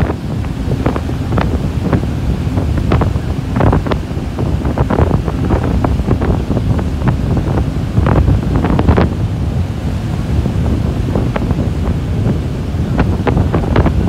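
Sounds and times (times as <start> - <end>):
waves breaking in surf: 0.0 - 14.0
wind buffeting microphone: 0.0 - 14.0.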